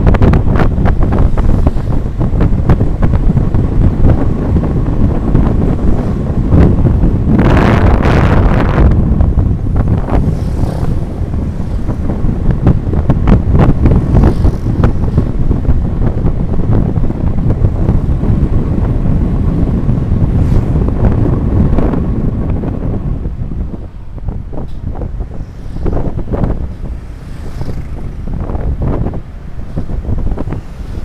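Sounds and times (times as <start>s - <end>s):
rumble of moving vehicles: 0.0s - 31.0s
wind buffeting microphone: 0.0s - 31.0s.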